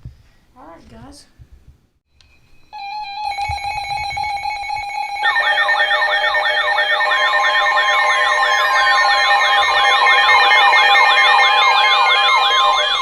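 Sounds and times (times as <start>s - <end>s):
pulsing electronic alarm tone: 2.3s - 13.0s
siren-like warble: 2.3s - 13.0s.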